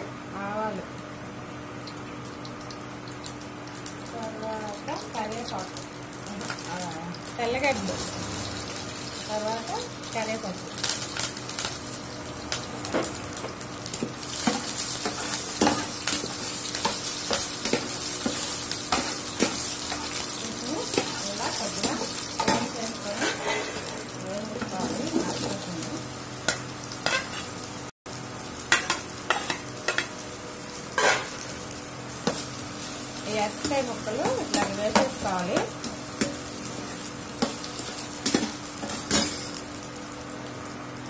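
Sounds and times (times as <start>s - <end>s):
sizzling in hot oil: 0.4s - 41.0s.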